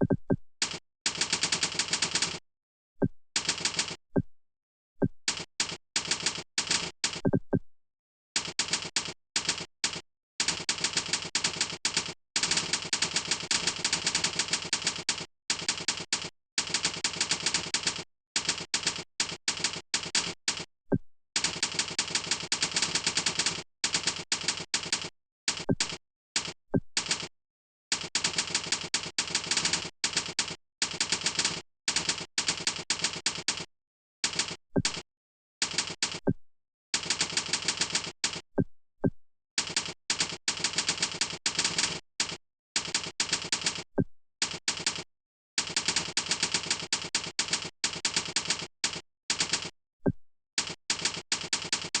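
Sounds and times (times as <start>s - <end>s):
fast typing on keyboard: 0.1s - 2.4s, 3.4s - 4.0s, 5.3s - 7.4s, 8.4s - 20.7s, 21.4s - 35.0s, 35.6s - 36.3s, 37.0s - 38.5s, 39.6s - 49.8s, 50.6s - 52.0s.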